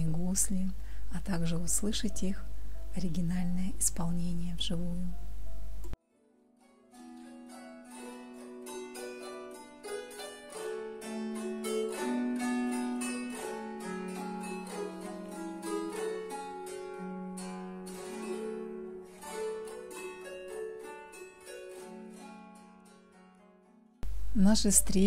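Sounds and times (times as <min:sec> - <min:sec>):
plucked psaltery melody: 0:01.4 - 0:24.0.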